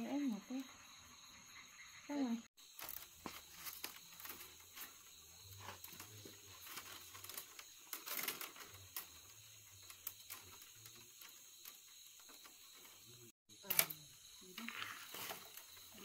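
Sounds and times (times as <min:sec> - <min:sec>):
dry plant material crackling: 0:02.6 - 0:16.0.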